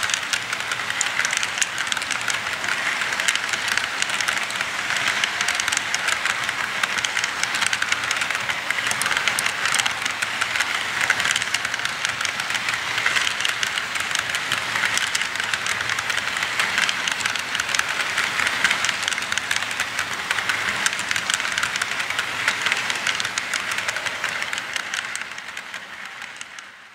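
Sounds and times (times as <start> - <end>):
model train wheels clicking: 0.0 - 26.9.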